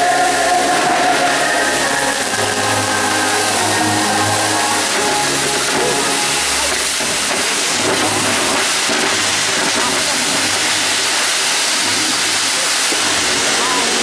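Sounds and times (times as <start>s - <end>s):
firework fountains hissing: 0.0s - 14.0s.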